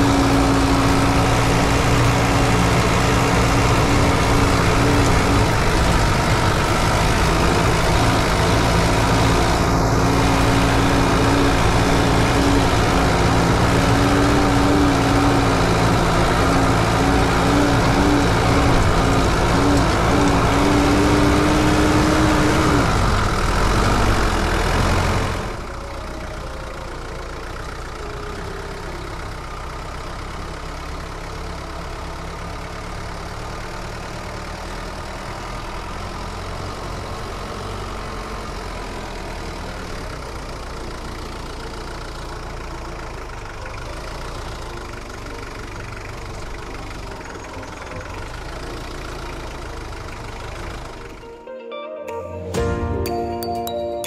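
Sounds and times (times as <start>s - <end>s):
vehicle engine running: 0.0s - 51.4s.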